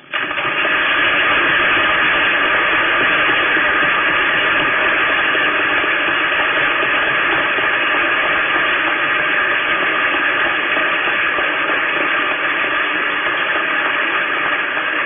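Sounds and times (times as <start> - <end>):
loud film soundtrack hiss: 0.0 - 15.0.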